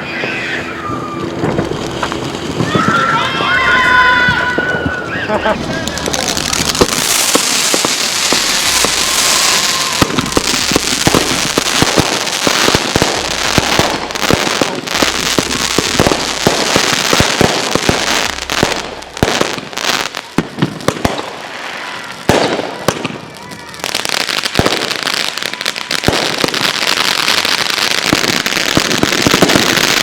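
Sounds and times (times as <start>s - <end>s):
fireworks crackling: 0.0s - 30.0s
fireworks launches and bangs: 0.0s - 30.0s.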